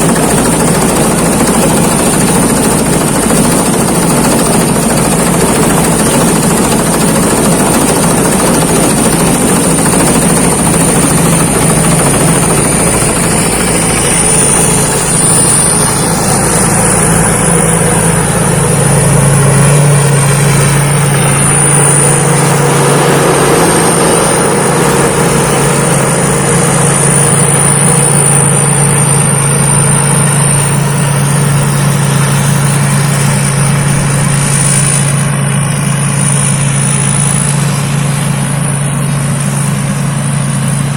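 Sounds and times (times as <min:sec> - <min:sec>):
combine harvester engine and threshing: 0:00.0 - 0:40.9.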